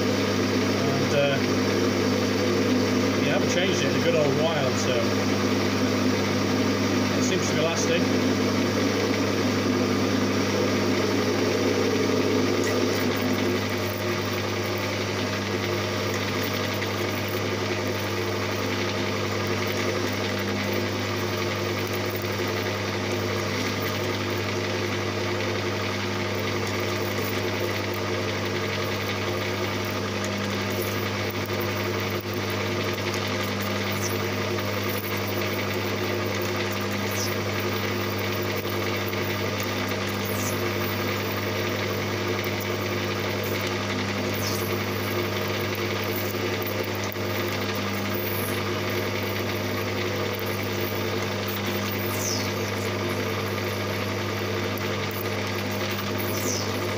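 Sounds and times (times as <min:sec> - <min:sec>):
metal lathe humming: 0:00.0 - 0:56.9
tool cutting spinning metal: 0:00.0 - 0:56.9.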